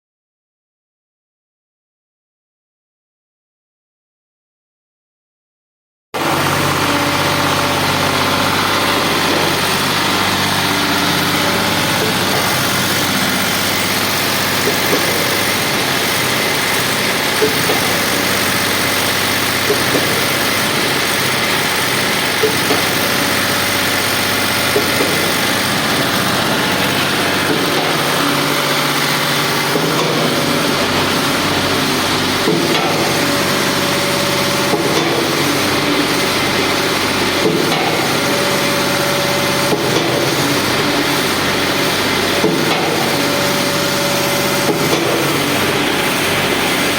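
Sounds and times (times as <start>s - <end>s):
diesel concrete pump running: 6.2s - 46.9s.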